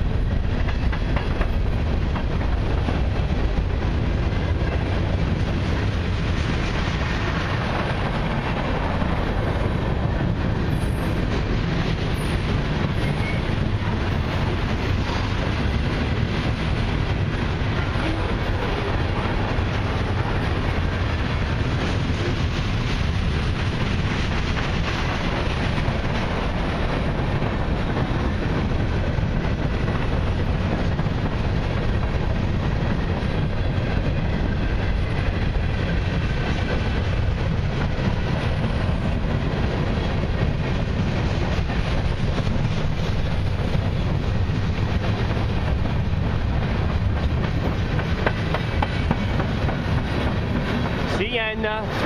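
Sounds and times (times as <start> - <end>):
train wheels rolling on rails: 0.0 - 52.0.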